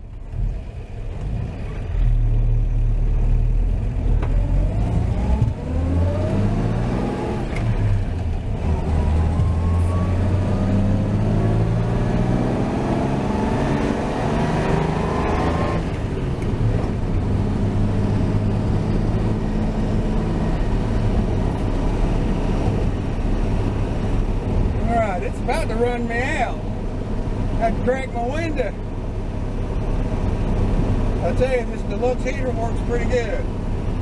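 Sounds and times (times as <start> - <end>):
pickup truck engine accelerating: 0.0 - 34.0.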